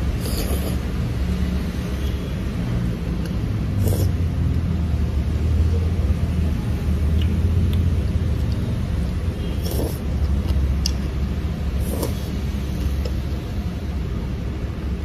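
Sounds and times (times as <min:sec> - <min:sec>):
road vehicles rumbling: 0:00.0 - 0:15.0.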